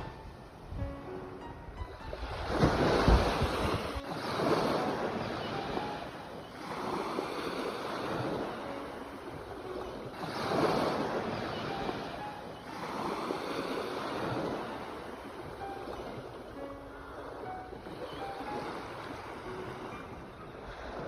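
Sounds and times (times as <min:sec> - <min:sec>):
sea waves breaking on shore: 0:00.0 - 0:21.0
wind buffeting microphone: 0:00.0 - 0:21.0.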